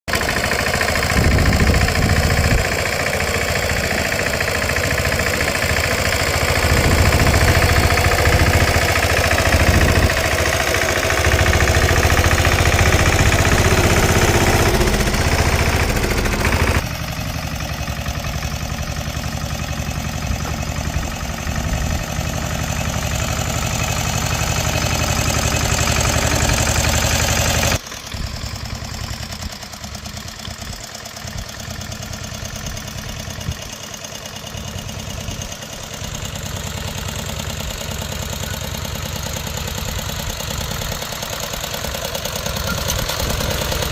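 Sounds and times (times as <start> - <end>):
tractor engine knocking: 0.1 - 43.9.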